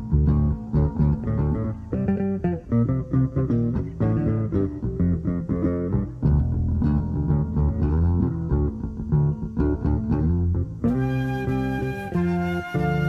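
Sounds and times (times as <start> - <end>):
bass guitar: 0.0 - 13.0
plucked guitar melody: 0.0 - 13.0.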